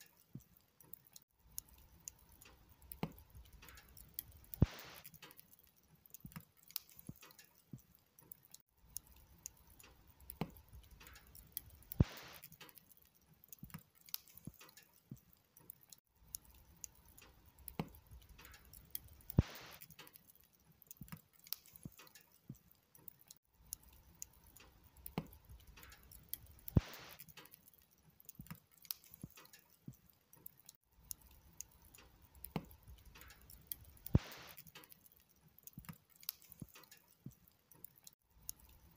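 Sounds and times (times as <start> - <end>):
log fire crackling: 0.0 - 38.9
sharp fire snaps: 0.0 - 38.9.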